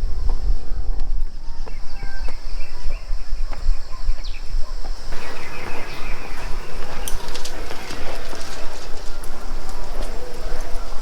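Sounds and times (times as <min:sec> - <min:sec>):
high insect drone: 0:00.0 - 0:11.0
bird chirps: 0:01.4 - 0:11.0.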